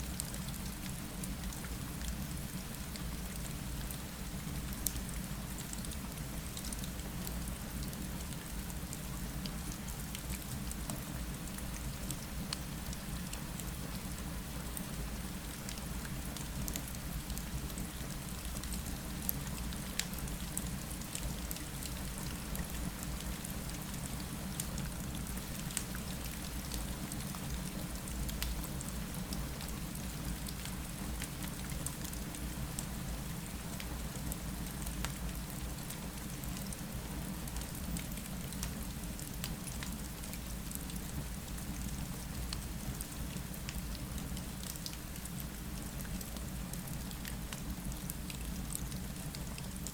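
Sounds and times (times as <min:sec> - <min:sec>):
rain against a window: 0:04.8 - 0:49.9.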